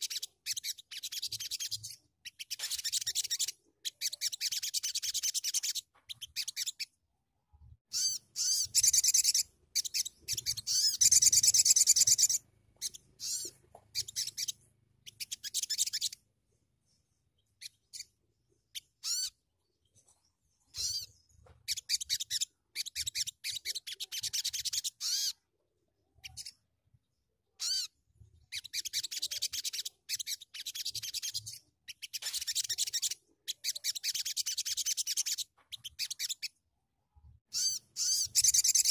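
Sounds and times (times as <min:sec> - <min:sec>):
bird chattering chirps: 0:00.0 - 0:06.9, 0:07.9 - 0:16.2, 0:16.9 - 0:25.4, 0:27.6 - 0:36.6, 0:37.5 - 0:38.9.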